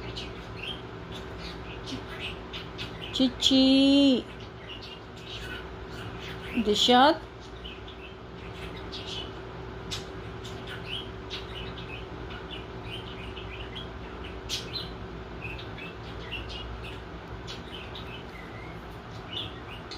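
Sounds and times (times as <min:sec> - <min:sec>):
small birds chirping: 0:00.0 - 0:19.9
steady low hum: 0:00.0 - 0:19.9.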